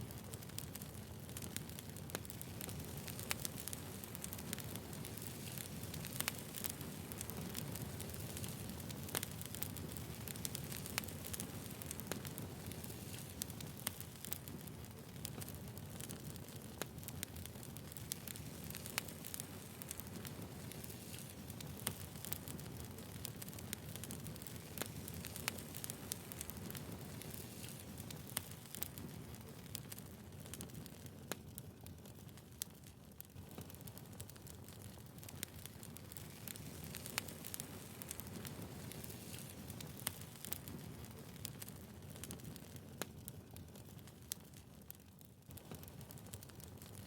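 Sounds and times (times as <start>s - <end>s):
fire low rumble: 0.0s - 44.9s
burning wood crackling: 0.0s - 47.0s.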